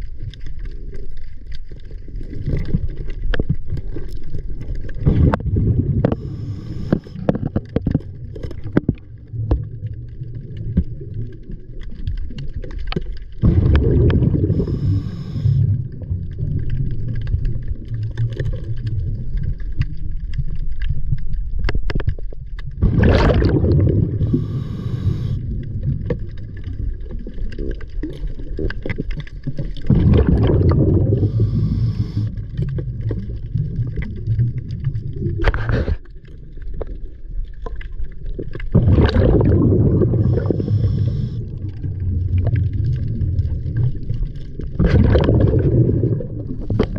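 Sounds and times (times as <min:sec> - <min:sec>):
water churning and gurgling: 0:00.0 - 0:46.9.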